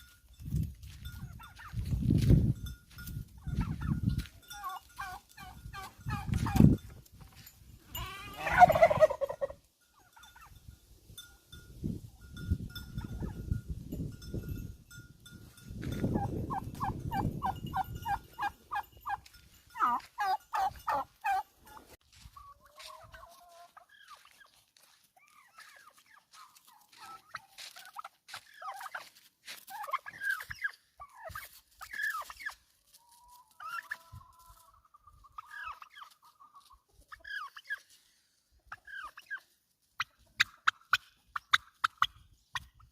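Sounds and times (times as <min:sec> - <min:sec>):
farmyard fowl calling: 0:00.9 - 0:02.3, 0:03.3 - 0:10.6, 0:15.8 - 0:42.8.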